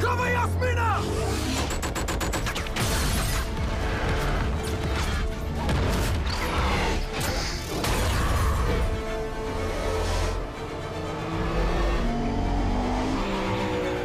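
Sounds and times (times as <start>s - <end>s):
dramatic orchestral score: 0.0s - 14.0s.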